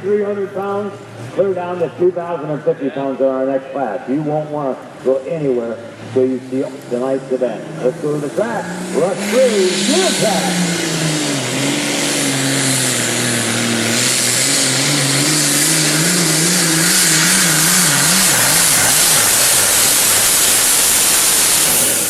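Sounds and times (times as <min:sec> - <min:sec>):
tractor engine at full power: 0:00.0 - 0:22.0.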